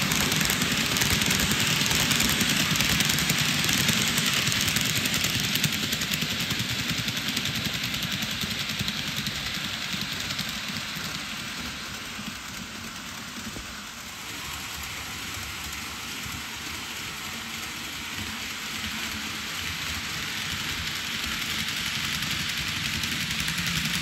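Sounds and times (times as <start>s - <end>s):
model train wheels rolling on rail: 0.0s - 24.0s.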